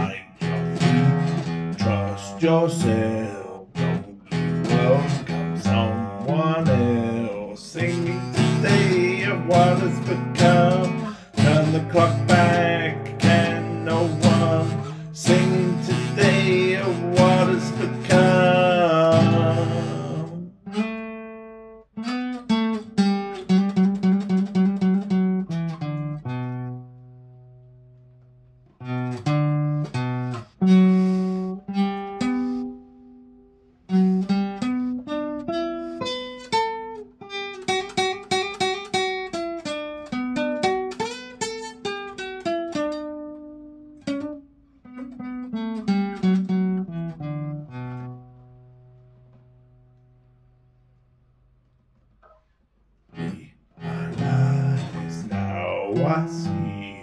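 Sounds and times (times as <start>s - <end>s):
classical guitar playing: 0.0s - 57.0s.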